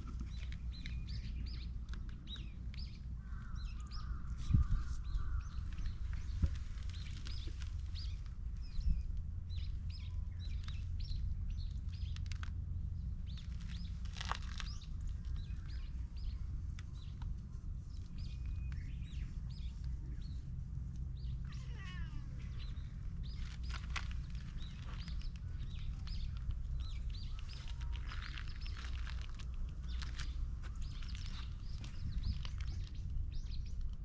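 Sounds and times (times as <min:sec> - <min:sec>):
small birds chirping: 0:00.0 - 0:34.0
steady low rumble: 0:00.0 - 0:34.0.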